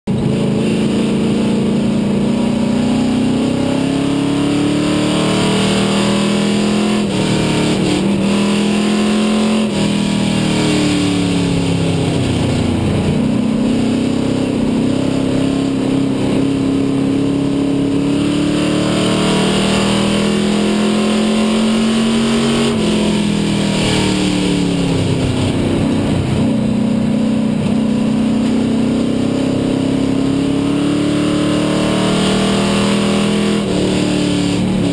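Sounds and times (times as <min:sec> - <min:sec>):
race car engine: 0:00.1 - 0:34.9.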